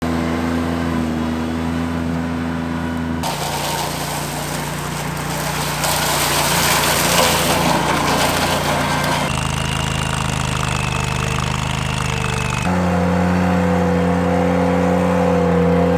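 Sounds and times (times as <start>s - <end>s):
tractor engine running: 1.1s - 14.3s.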